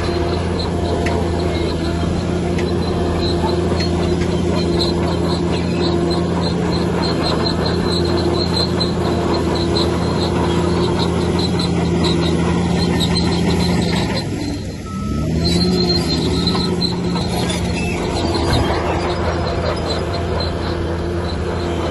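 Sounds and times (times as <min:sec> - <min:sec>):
heavy diesel engine running: 0:00.0 - 0:21.9
short high-pitched squeaks: 0:00.0 - 0:21.9.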